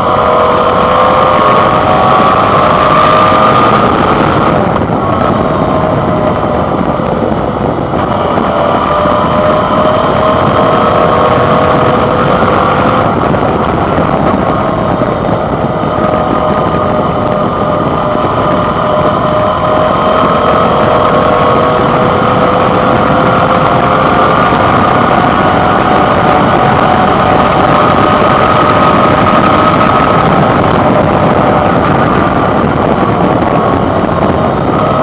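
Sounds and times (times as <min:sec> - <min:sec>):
motorcycle engine running: 0:00.0 - 0:35.0
wind and road noise: 0:00.0 - 0:35.0.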